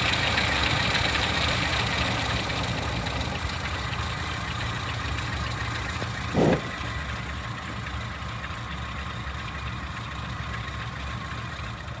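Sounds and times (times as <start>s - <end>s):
petrol engine idling: 0.0s - 12.0s.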